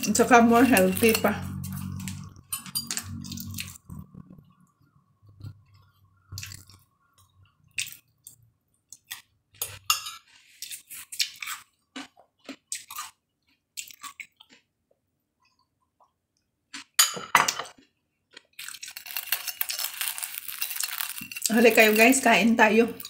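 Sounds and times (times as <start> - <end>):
person chewing food: 1.5 - 17.0, 17.6 - 21.5.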